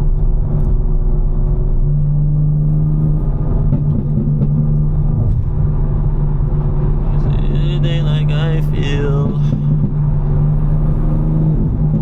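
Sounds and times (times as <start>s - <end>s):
car engine droning at low revs: 0.0s - 12.0s.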